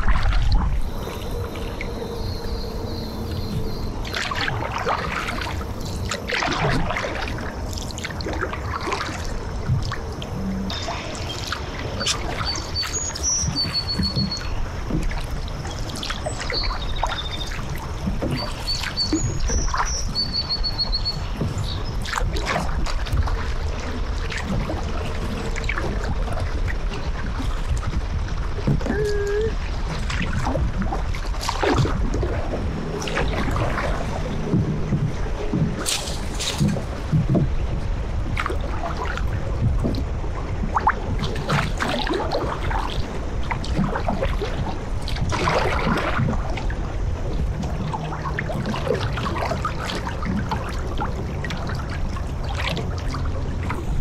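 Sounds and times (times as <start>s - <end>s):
paddle splashing in water: 0.0s - 54.0s.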